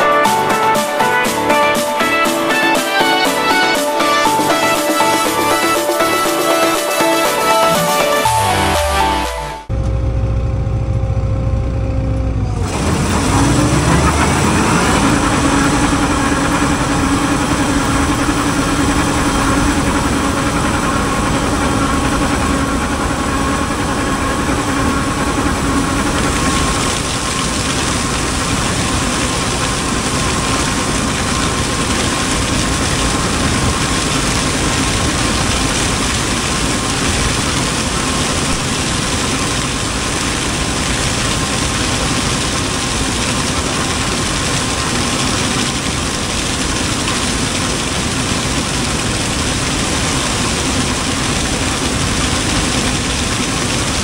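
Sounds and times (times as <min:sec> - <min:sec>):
combine harvester engine and threshing: 0:02.5 - 0:54.0.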